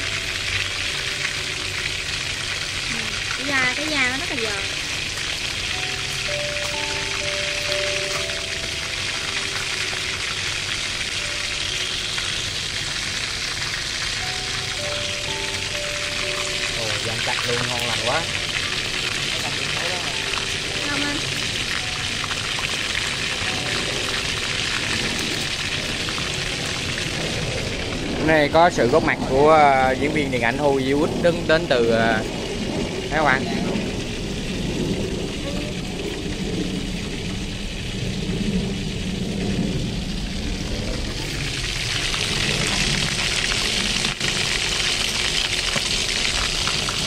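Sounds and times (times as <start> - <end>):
oil popping: 0.0 - 29.2, 33.8 - 47.0
chicken sizzling in hot oil: 0.0 - 47.0.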